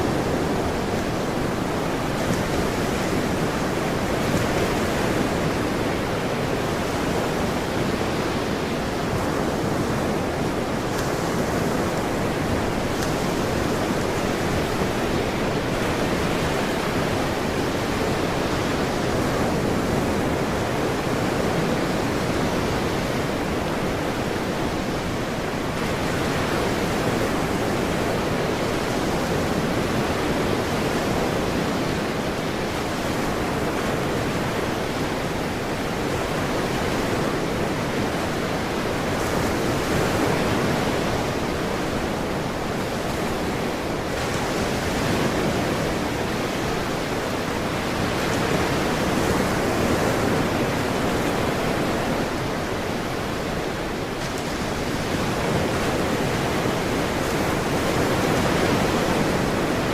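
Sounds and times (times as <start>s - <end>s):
ocean surf washing: 0.0s - 59.9s.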